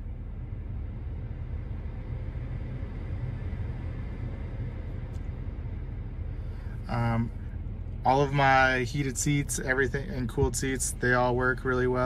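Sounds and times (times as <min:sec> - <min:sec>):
climate-control fan blowing air: 0:00.0 - 0:12.0
low vehicle rumble: 0:00.0 - 0:12.0.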